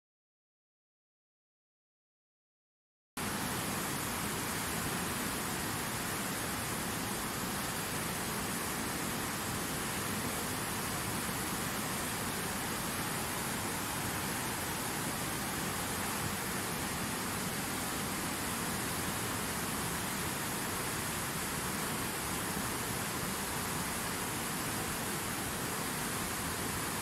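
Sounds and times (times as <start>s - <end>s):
river rushing over rocks: 3.2s - 27.0s.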